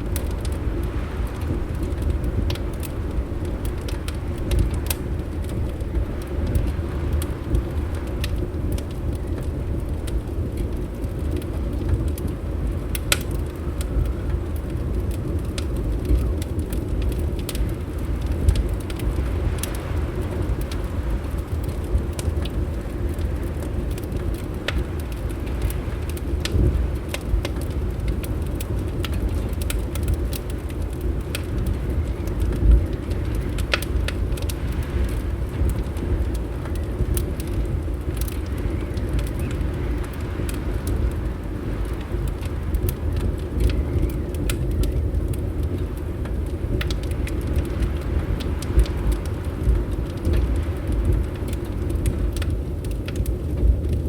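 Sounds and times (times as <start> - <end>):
steady low rumble: 0.0 - 54.0
wood fire crackling: 0.0 - 54.0.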